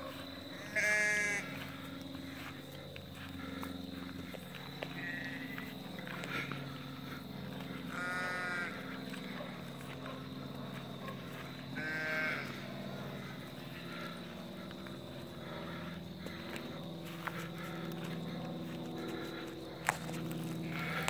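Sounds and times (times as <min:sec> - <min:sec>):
farm animal calls: 0:00.0 - 0:21.0
steady low hum: 0:00.0 - 0:21.0.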